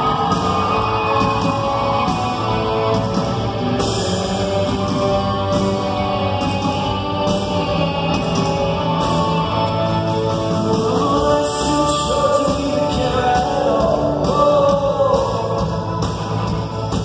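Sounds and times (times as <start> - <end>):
drums: 0.0 - 17.0
electric guitar: 0.0 - 17.0
rock band playing: 0.0 - 17.0.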